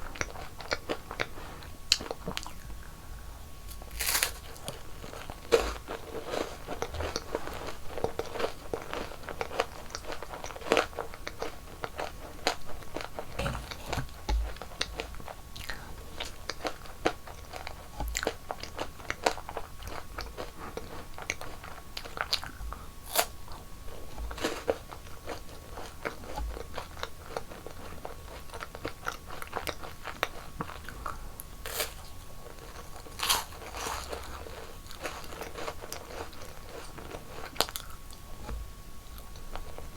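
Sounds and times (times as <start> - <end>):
crunchy chewing: 0.0 - 3.0, 3.6 - 39.9.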